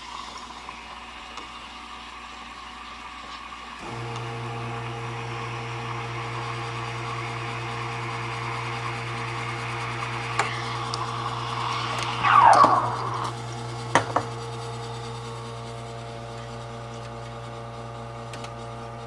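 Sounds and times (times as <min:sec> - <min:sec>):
espresso machine hum: 0:03.5 - 0:19.0.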